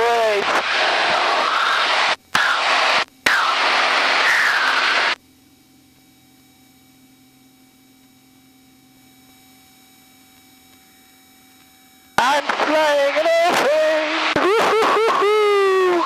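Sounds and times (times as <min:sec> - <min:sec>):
faint electronic hum: 0:00.0 - 0:16.0.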